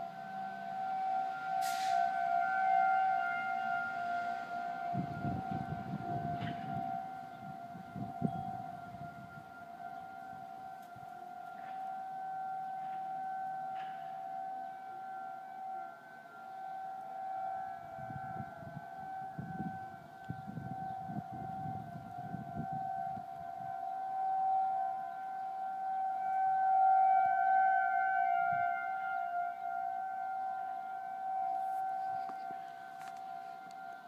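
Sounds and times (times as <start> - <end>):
warning siren steady tone: 0.0 - 34.0.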